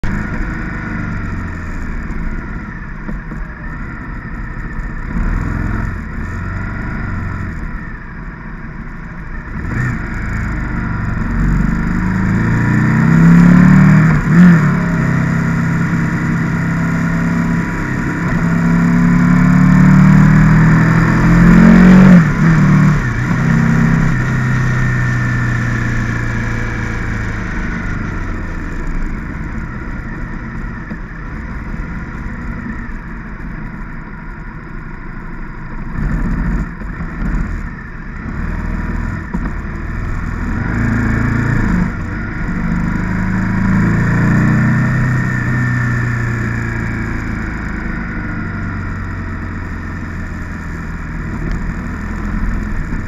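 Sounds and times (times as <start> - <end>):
motorcycle engine hum: 0.0 - 53.0
wind and road rush: 0.0 - 53.0.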